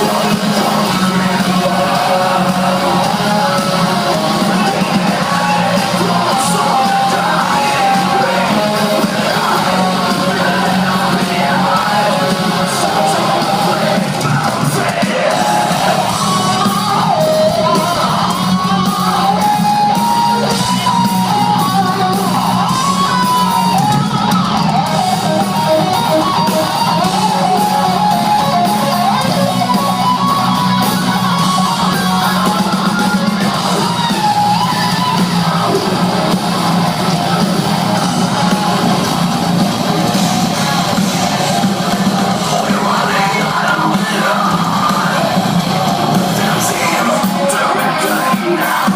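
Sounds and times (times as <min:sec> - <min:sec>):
bass and drums: 0:00.0 - 0:48.9
distorted electric guitars: 0:00.0 - 0:48.9
shouted vocals: 0:00.0 - 0:48.9.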